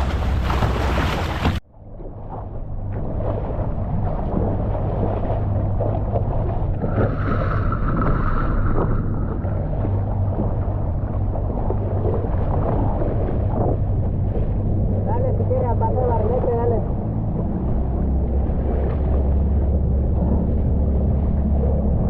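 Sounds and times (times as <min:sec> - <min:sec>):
small boat motor running: 0:00.0 - 0:01.6, 0:02.2 - 0:22.0
wind noise on microphone: 0:00.0 - 0:22.0.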